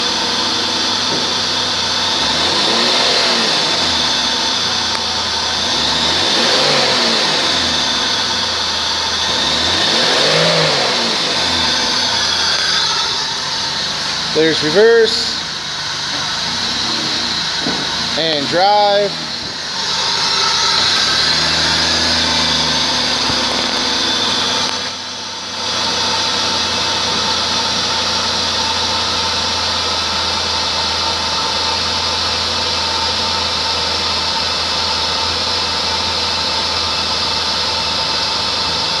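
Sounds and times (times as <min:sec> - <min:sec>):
car engine idling with hiss: 0:00.0 - 0:39.0.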